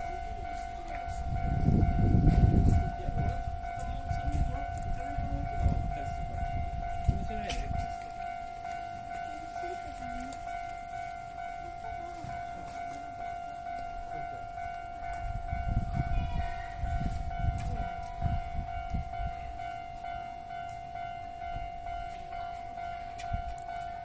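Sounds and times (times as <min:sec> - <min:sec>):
train rumbling over rails: 0:00.0 - 0:24.0.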